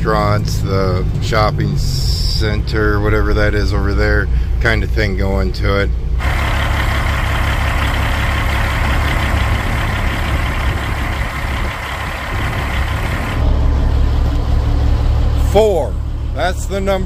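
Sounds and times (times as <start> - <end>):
diesel truck engine drone: 0.0 - 17.0
road and tyre noise: 0.0 - 17.0.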